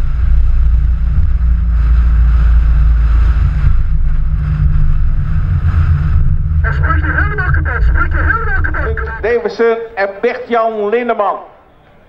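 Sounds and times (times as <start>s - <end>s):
vehicle running noise: 0.0s - 10.0s.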